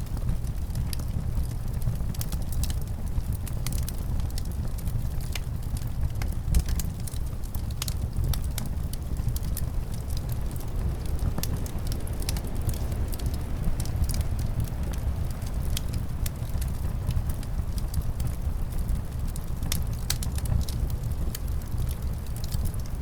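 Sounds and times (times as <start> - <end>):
low rumble of wind: 0.0 - 23.0
wood fire crackling and popping: 0.0 - 23.0.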